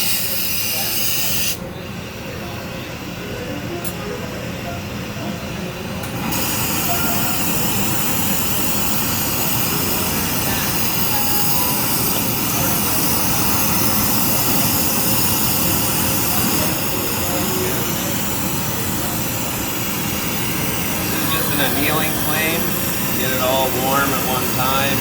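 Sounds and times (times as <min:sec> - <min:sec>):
torch flame hissing: 0:00.0 - 0:01.7, 0:04.3 - 0:25.0.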